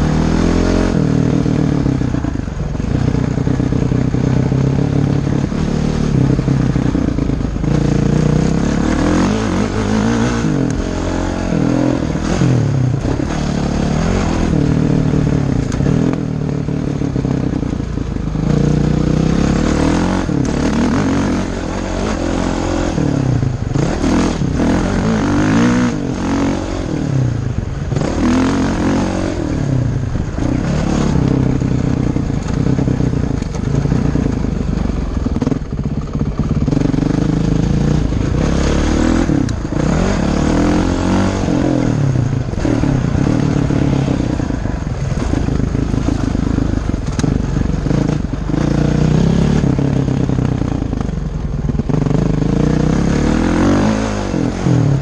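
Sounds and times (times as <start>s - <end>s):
dirt bike engine revving: 0.0s - 51.0s, 51.6s - 55.0s.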